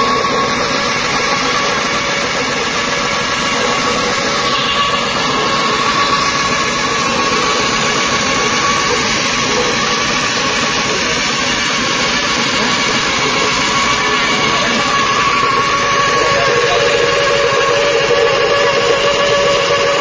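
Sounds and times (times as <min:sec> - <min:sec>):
machine running with whine: 0:00.0 - 0:20.0.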